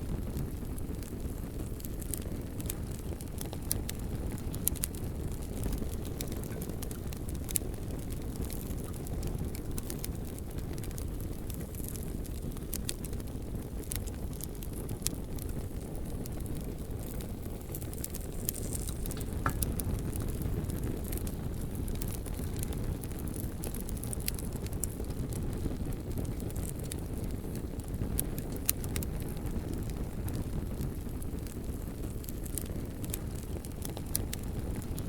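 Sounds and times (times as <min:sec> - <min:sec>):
bonfire low rumble: 0:00.0 - 0:35.0
loud fire pops: 0:00.0 - 0:35.0
logs crackling: 0:00.4 - 0:35.0.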